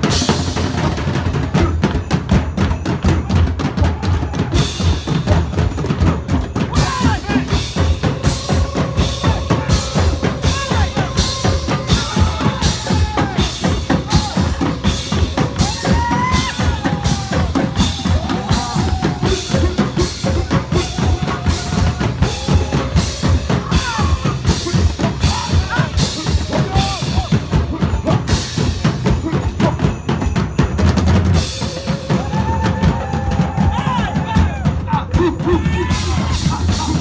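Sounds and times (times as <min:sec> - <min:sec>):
loud music with drum beat: 0:00.0 - 0:37.0.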